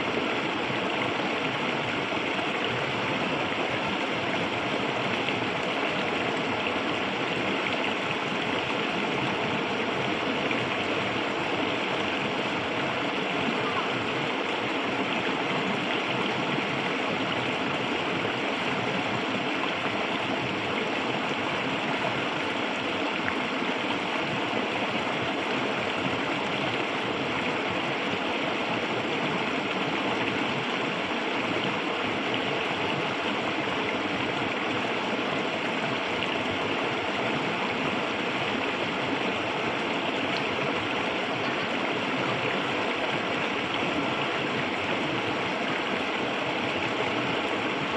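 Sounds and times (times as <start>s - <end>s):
shallow river babbling: 0.0s - 47.9s.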